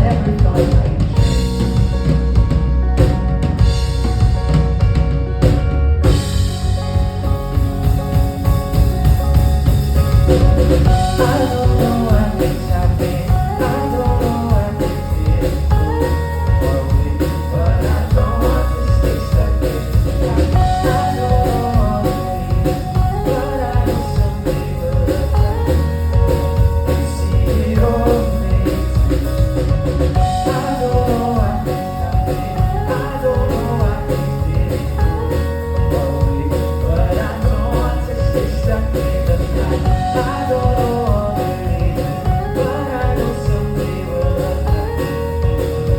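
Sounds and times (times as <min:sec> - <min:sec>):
person singing: 0:00.0 - 0:02.1, 0:09.0 - 0:45.9
drum kit: 0:00.0 - 0:45.9
heavy bass: 0:00.0 - 0:45.9.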